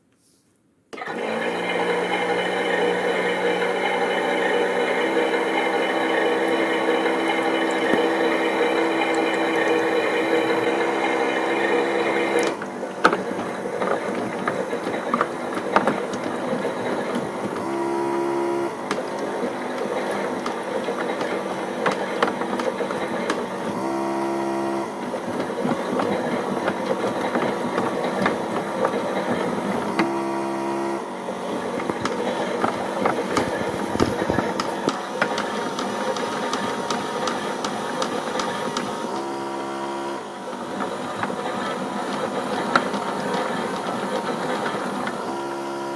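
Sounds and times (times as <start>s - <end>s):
toy washing machine motor whirring: 1.0s - 45.9s.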